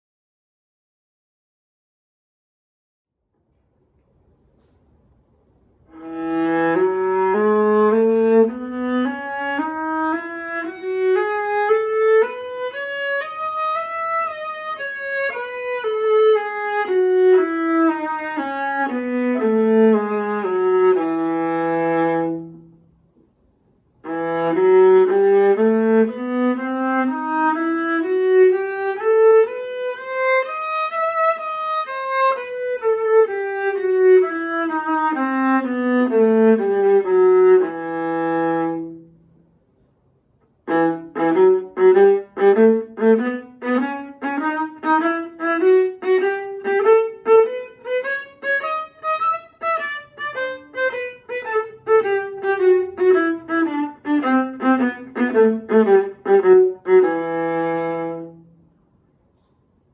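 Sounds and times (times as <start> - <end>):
viola playing scales: 5.8 - 22.8, 24.0 - 39.2, 40.6 - 58.6.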